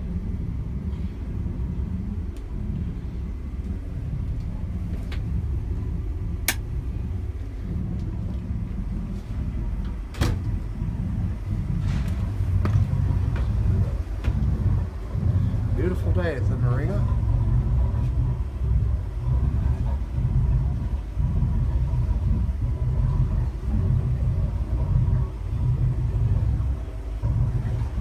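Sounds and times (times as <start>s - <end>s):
boat engine idling: 0.0s - 28.0s.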